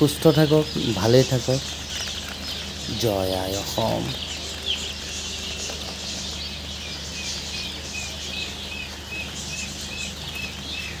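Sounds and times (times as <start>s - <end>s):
chicks peeping: 0.0s - 11.0s
steady low hum: 0.0s - 11.0s.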